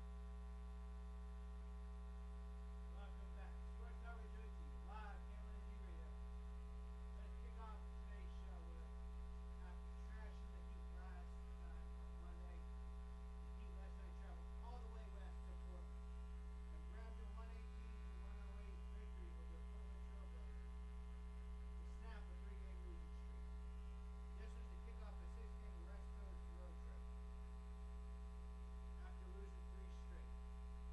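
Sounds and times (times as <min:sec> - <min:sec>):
electrical mains hum: 0:00.0 - 0:30.9
faint indistinct talking: 0:02.3 - 0:30.9.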